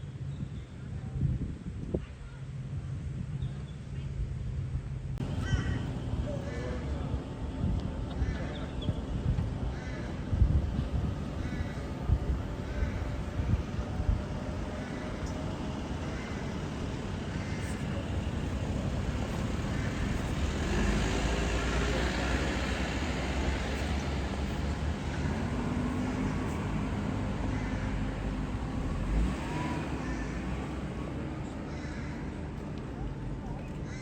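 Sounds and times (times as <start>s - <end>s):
vehicle passing rumble: 5.1s - 34.0s.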